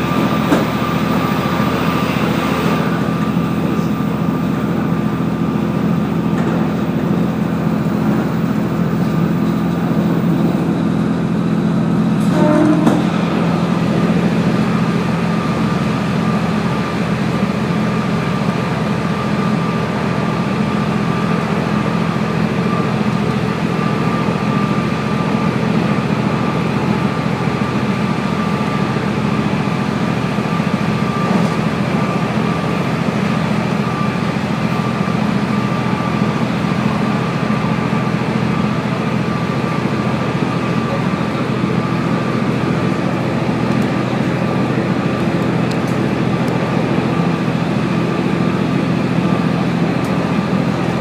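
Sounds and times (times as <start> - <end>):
railcar engine drone and rolling: 0.0 - 51.0.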